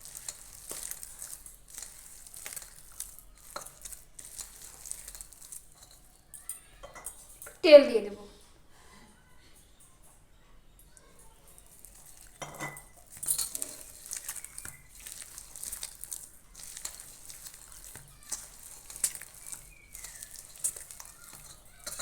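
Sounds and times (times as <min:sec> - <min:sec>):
batter mixing and scraping in bowl: 0:00.0 - 0:07.6, 0:11.0 - 0:22.0.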